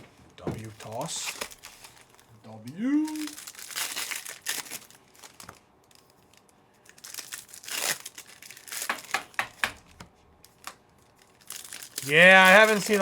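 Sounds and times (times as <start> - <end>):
foil wrappers crinkling and tearing: 0.6 - 9.4, 10.4 - 13.0.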